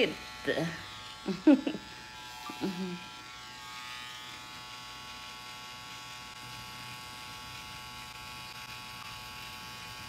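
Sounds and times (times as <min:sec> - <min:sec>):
tattoo pen buzzing: 0:00.0 - 0:10.0.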